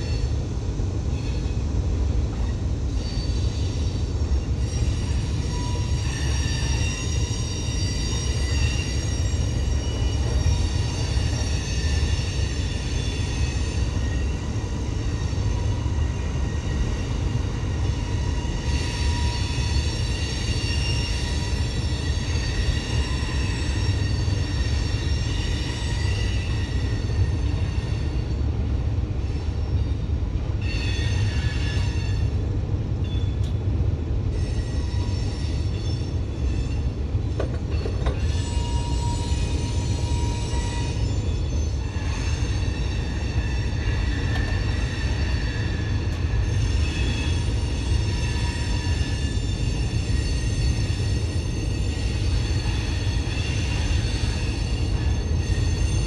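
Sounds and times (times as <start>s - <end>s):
freight train rumble: 0.0s - 56.0s
steel wheel squeal: 2.3s - 28.4s, 30.6s - 32.4s, 34.3s - 56.0s.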